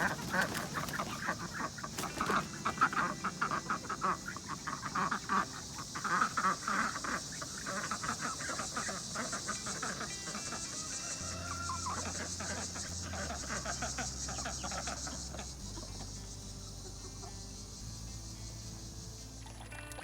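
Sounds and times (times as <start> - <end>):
chickens clucking: 0.0 - 17.7
high insect buzz: 0.0 - 20.0
music with slow bass notes: 0.0 - 20.0.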